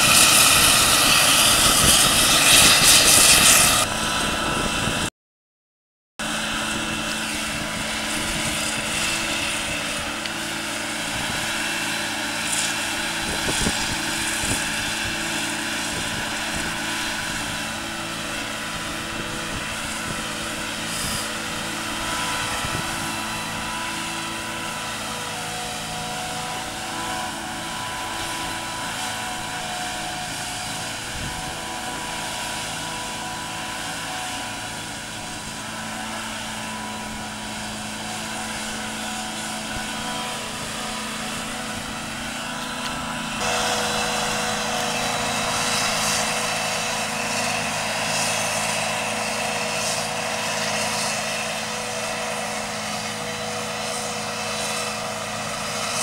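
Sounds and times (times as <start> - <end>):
machine drone with high whine: 0.0 - 5.1, 6.2 - 56.0.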